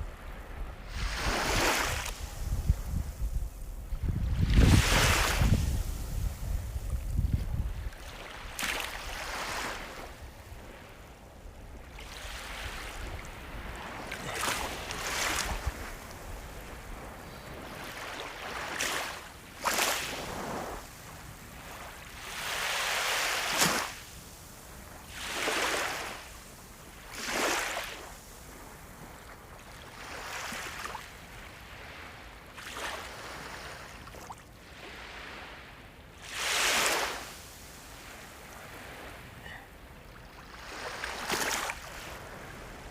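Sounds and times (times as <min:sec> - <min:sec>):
ocean waves breaking: 0:00.0 - 0:07.0, 0:07.7 - 0:24.2, 0:24.8 - 0:42.9.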